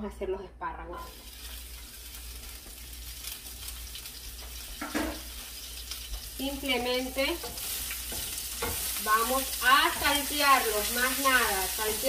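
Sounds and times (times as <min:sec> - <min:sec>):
food sizzling in a frying pan: 0:01.0 - 0:12.0.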